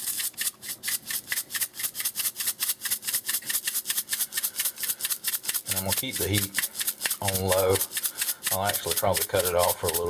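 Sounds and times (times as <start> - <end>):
seasoning shaker rattling: 0.0 - 10.0.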